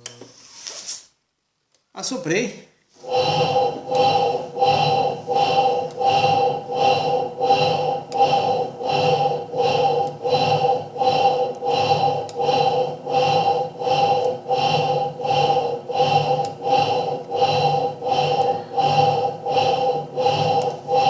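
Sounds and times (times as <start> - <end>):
motor whine: 3.0 - 21.0
washing machine agitating: 3.0 - 21.0.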